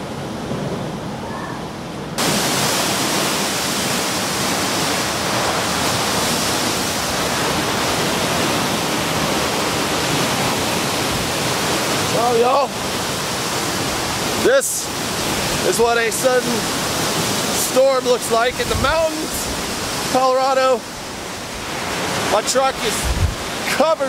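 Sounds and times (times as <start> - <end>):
storm wind rushing through trees: 0.0 - 24.0.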